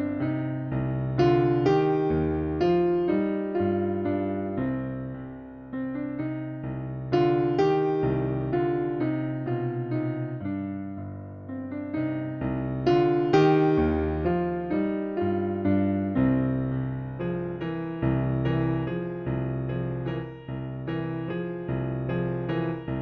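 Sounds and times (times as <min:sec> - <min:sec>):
solo piano music: 0:00.0 - 0:23.0.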